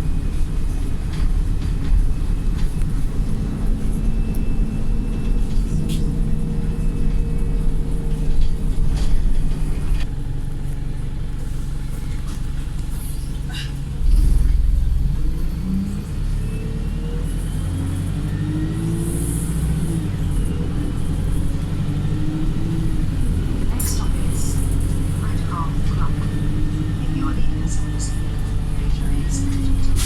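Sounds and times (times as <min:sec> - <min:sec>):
bus engine drone: 0:00.0 - 0:30.0.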